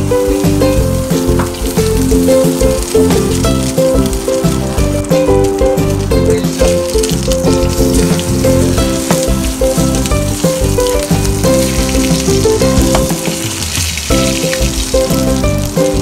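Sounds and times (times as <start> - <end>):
background music: 0.0 - 16.0
fish sizzling in frying pan: 0.0 - 16.0.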